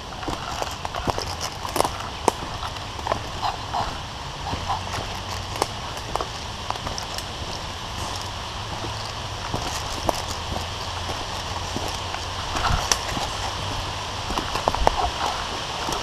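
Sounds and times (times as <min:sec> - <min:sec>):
footsteps on leaf litter and twigs: 0:00.0 - 0:16.0
low steady rumble: 0:00.0 - 0:16.0.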